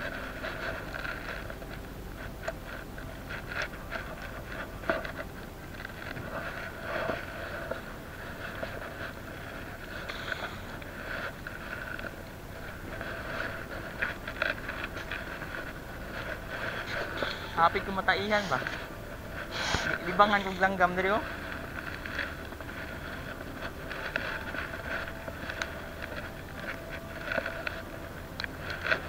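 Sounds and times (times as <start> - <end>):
line scraping and rustling into bucket: 0.0 - 29.0
steady background drone: 0.0 - 29.0.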